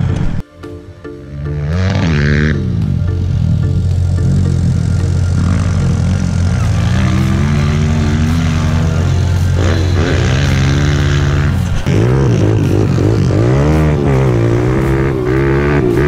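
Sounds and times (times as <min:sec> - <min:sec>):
motorbike engine revving: 0:01.3 - 0:16.0.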